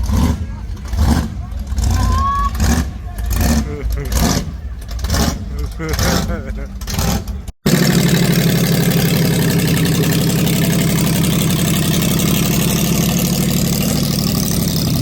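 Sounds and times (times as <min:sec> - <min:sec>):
car engine idling loudly: 0:00.0 - 0:15.0.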